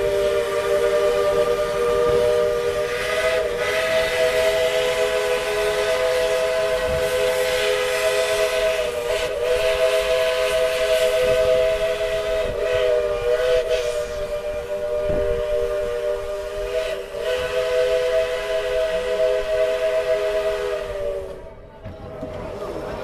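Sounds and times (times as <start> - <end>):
steam hissing: 0.0 - 21.5
steam locomotive chime whistle: 0.0 - 21.6.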